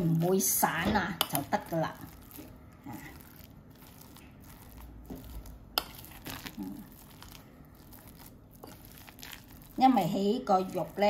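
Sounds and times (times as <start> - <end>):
spoon mixing sticky paste: 0.0 - 11.0.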